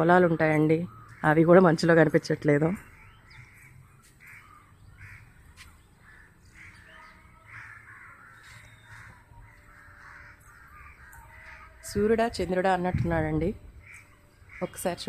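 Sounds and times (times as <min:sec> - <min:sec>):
distant crows cawing: 0:00.0 - 0:12.8, 0:13.7 - 0:15.0.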